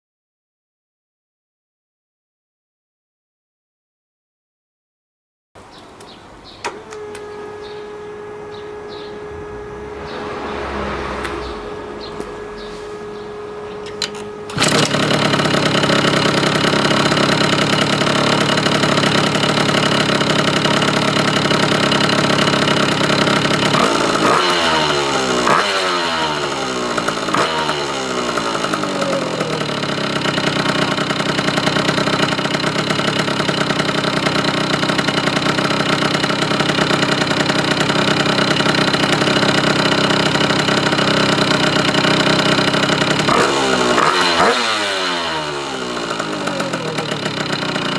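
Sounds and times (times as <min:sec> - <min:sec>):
scooter engine running and revving: 0:06.7 - 0:47.9.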